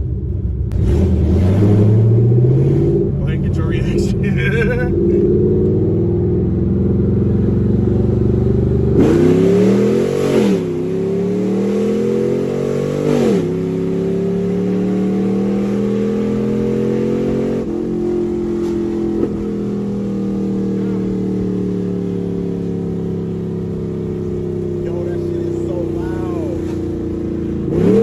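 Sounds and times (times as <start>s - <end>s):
loud car exhaust accelerating: 0.0s - 28.0s.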